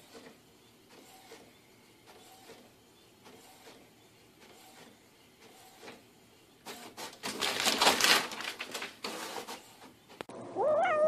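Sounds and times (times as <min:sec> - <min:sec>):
desktop printer running: 0:00.0 - 0:10.3.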